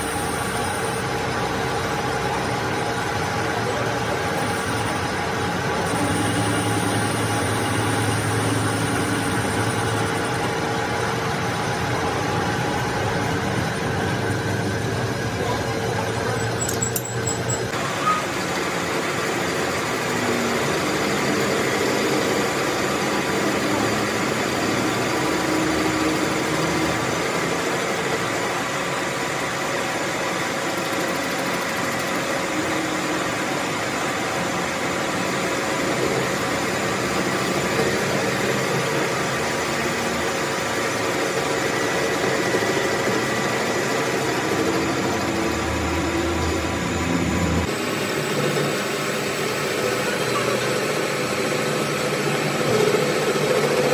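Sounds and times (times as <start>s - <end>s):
machine humming: 0.0s - 53.9s.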